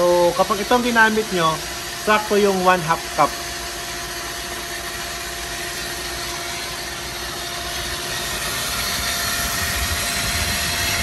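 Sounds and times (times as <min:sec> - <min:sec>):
pump humming: 0:00.0 - 0:11.0.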